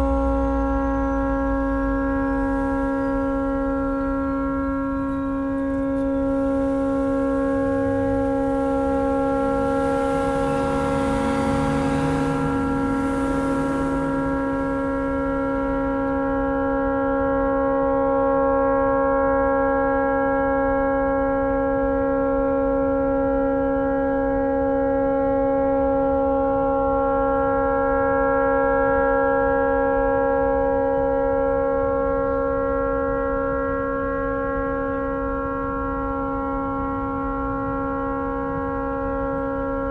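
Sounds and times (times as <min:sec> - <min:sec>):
tugboat horn steady tone: 0:00.0 - 0:39.9.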